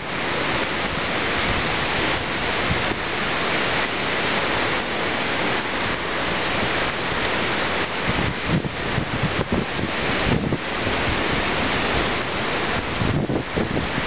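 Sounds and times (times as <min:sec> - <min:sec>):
wind and rain through palm trees: 0:00.0 - 0:14.0.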